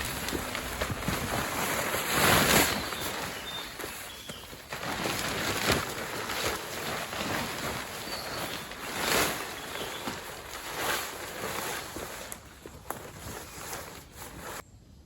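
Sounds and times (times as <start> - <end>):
rustling and shuffling: 0.0 - 14.6.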